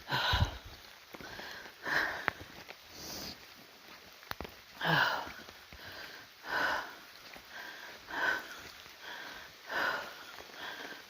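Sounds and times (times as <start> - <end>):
person breathing: 0.0 - 3.4, 4.8 - 11.0.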